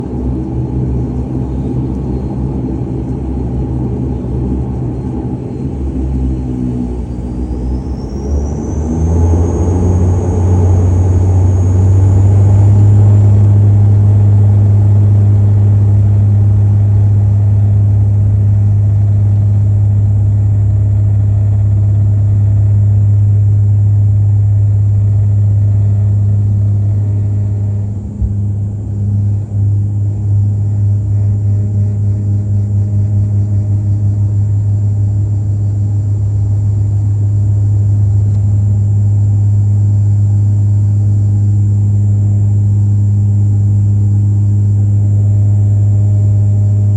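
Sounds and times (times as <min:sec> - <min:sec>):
high turbine whine: 0:00.0 - 0:46.9
propeller drone: 0:00.0 - 0:46.9.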